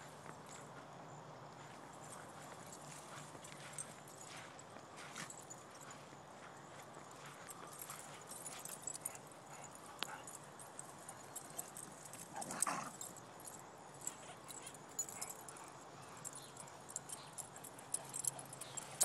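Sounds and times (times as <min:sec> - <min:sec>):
dog paws ticking on grass: 0:01.5 - 0:19.0.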